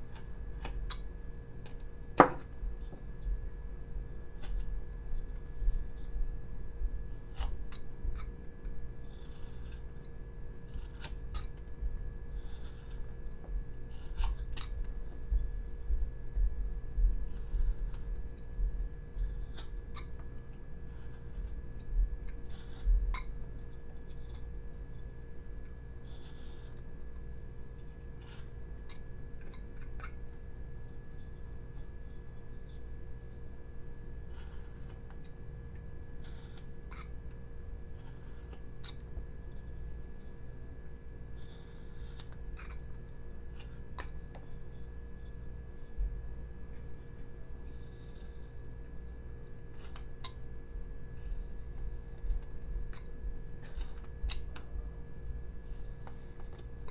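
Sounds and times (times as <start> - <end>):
knife cutting and scraping wood: 0.0 - 3.3, 4.3 - 6.2, 7.1 - 11.7, 12.3 - 16.4, 19.1 - 33.4, 34.2 - 35.4, 36.1 - 40.5, 41.4 - 46.0, 46.7 - 50.5, 51.1 - 54.7, 55.6 - 56.9
steady low hum: 0.0 - 56.9.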